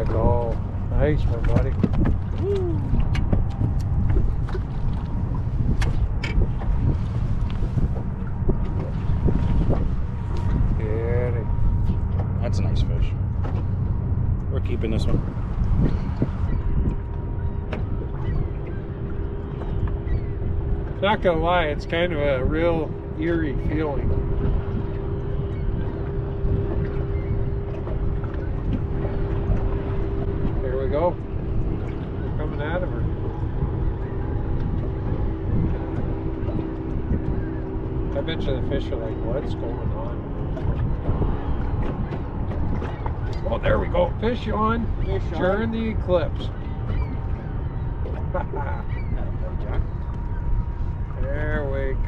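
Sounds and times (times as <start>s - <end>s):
boat motor humming: 0.0s - 52.0s
wind buffeting the microphone: 0.0s - 52.0s.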